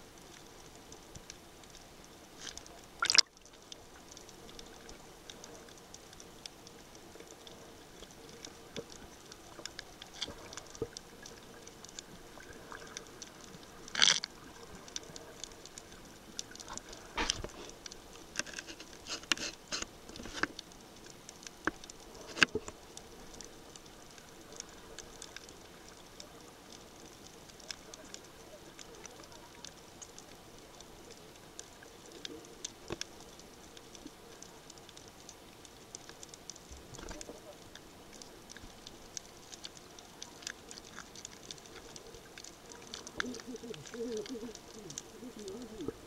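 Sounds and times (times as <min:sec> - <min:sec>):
faint underwater hiss: 0:00.0 - 0:46.0
underwater clicks and crackles: 0:00.0 - 0:46.0.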